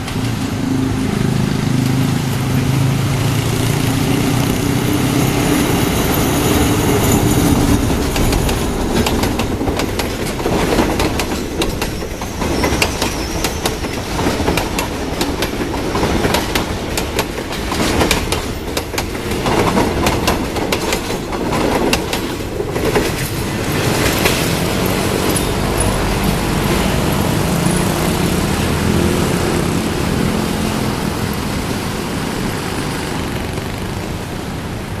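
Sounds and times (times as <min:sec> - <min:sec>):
train wheels clacking on rail joints: 0:00.0 - 0:34.0
train rumble: 0:00.0 - 0:35.0.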